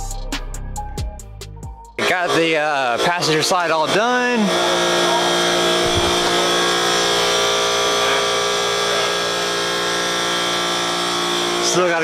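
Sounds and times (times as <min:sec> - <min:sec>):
mechanical drone with high whine: 0:02.0 - 0:12.0.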